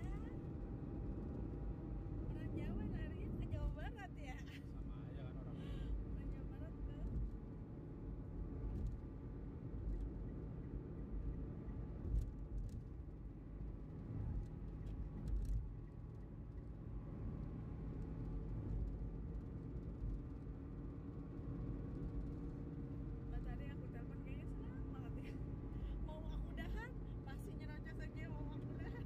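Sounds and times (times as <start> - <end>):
faint steady hum: 0.0 - 29.0
tyres and engine rumble: 0.0 - 29.0.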